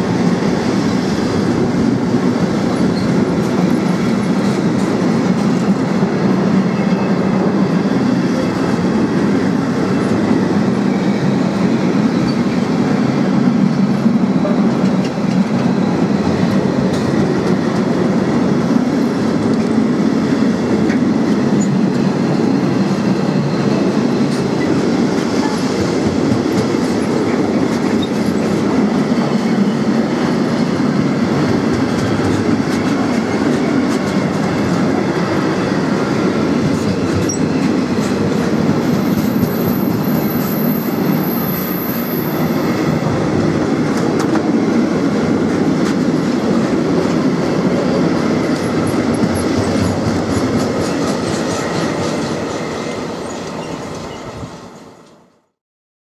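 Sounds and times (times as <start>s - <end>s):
freight train wheels rumbling: 0.0s - 55.5s.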